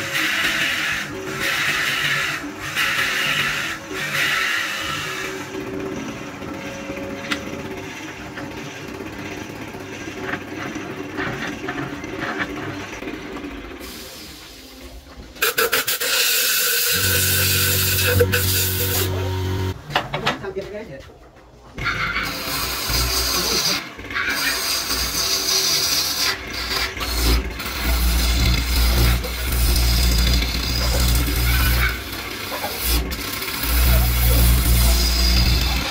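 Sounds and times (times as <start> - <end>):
tool scraping wood: 0.0 - 7.4, 8.3 - 13.4, 15.4 - 19.8, 21.8 - 35.9
wood lathe humming: 0.0 - 13.7, 16.0 - 19.8, 22.2 - 35.9.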